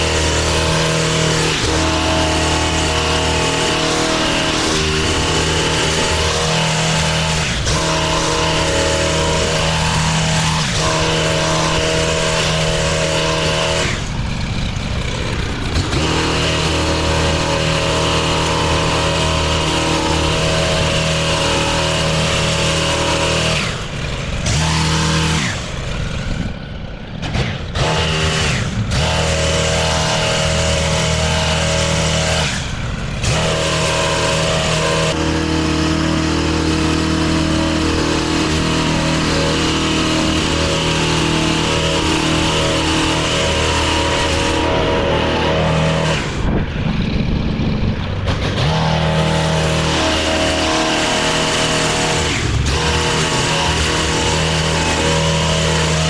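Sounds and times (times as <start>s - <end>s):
hedge trimmer engine running: 0.0s - 56.0s.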